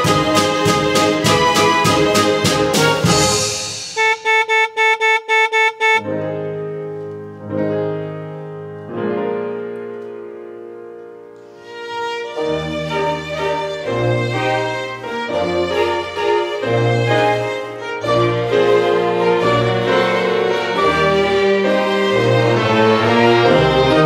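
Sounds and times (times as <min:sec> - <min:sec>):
orchestra with piano and strings: 0:00.0 - 0:04.0, 0:06.0 - 0:24.0.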